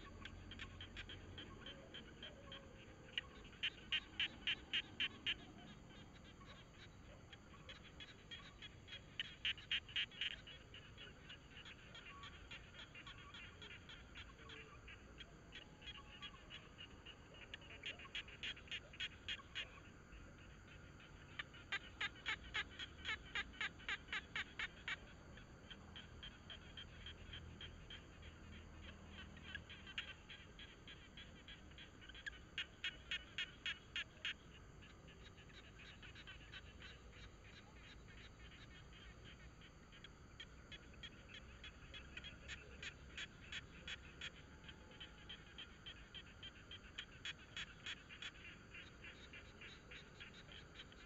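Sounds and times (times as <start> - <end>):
rapid animal calls: 0.0 - 51.0.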